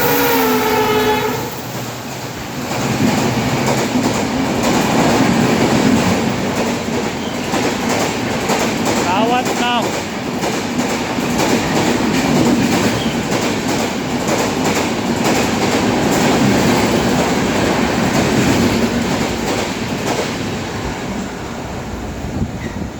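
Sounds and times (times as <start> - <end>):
train passing at speed: 0.0 - 22.9.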